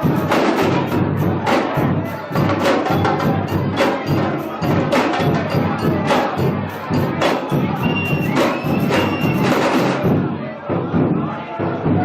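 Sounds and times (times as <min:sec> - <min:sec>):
percussion ensemble drumming: 0:00.0 - 0:12.0.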